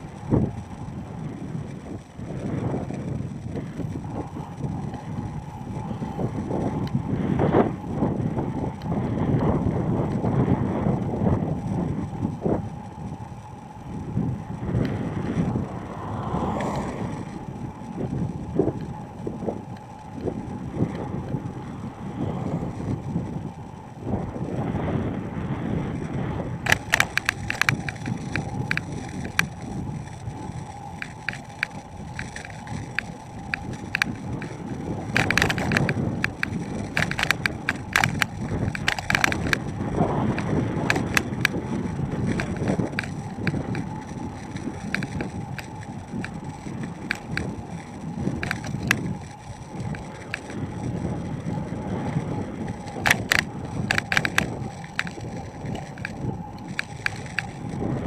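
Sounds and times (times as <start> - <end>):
bicycle clicks and rattles: 0.0 - 58.0
tyre and road rumble: 0.0 - 58.0
wind on microphone: 0.0 - 58.0.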